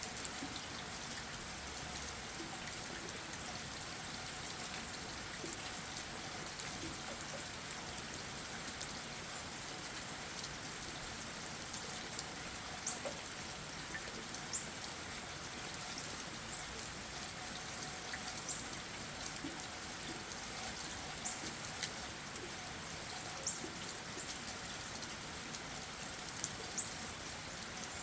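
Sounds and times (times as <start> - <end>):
rain pattering on leaves: 0.0 - 28.0.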